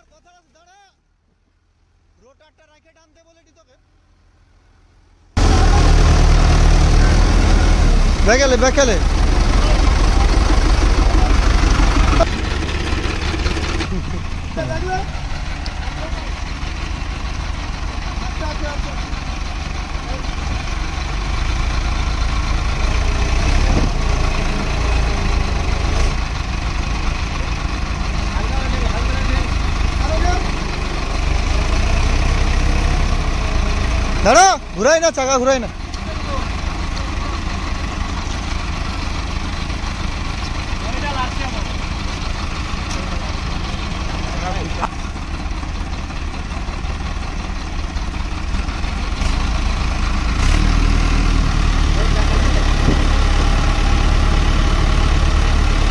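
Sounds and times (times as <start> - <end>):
tractor engines rumbling: 0.0 - 55.9.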